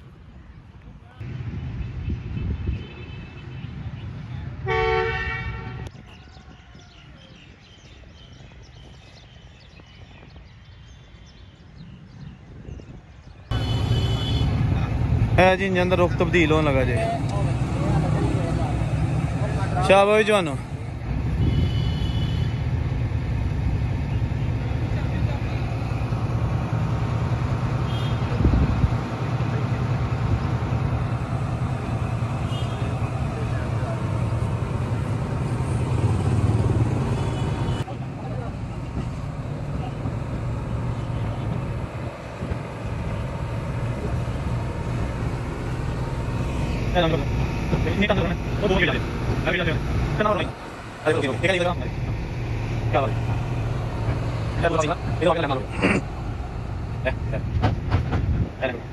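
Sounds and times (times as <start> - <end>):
outdoor ambience: 0.0 - 58.9
diesel locomotive engine: 10.5 - 58.9.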